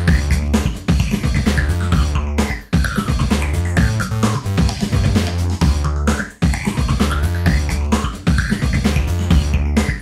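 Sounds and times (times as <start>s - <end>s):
song with drums and bass: 0.0s - 10.0s.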